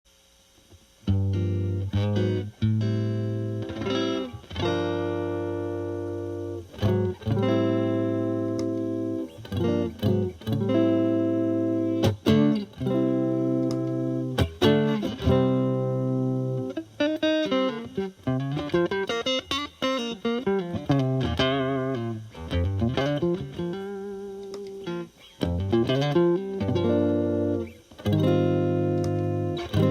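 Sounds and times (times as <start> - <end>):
distortion pedal switching on: 0.5 - 29.9
electric guitar chords: 0.7 - 29.9.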